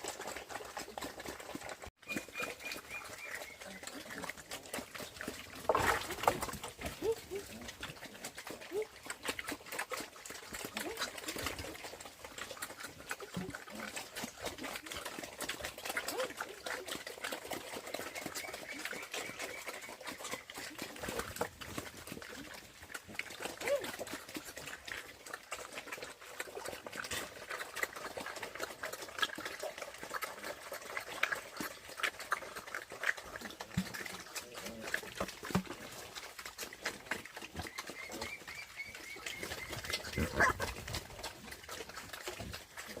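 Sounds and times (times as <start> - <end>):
animal grunts and squeaks: 0.0 - 43.0.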